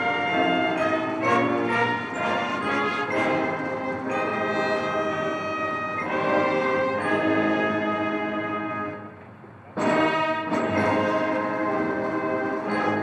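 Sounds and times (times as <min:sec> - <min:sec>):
brass band playing held chords: 0:00.0 - 0:13.0.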